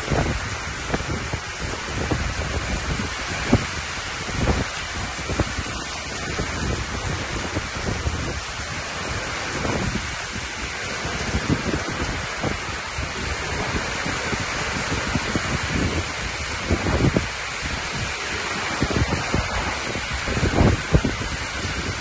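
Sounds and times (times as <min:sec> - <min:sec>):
heavy rain pouring: 0:00.0 - 0:22.0
wind gusting on microphone: 0:00.0 - 0:22.0.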